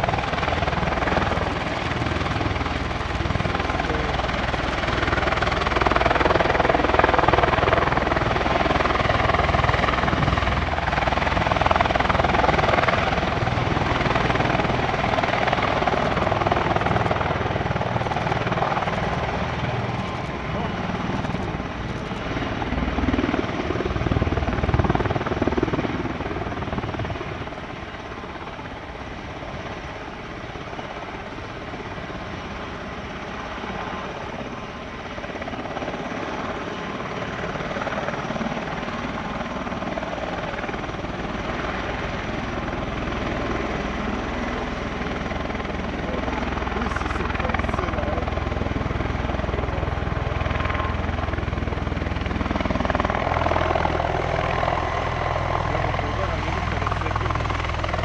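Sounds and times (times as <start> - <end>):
rotor and turbine noise: 0.0 - 58.0.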